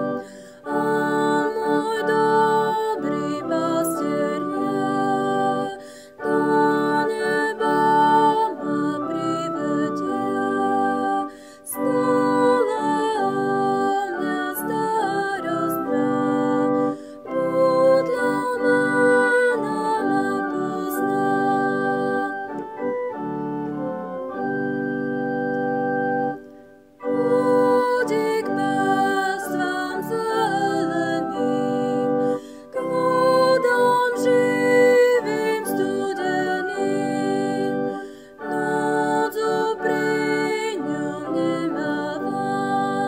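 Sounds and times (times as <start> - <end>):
organ playing a hymn: 0.0 - 43.0.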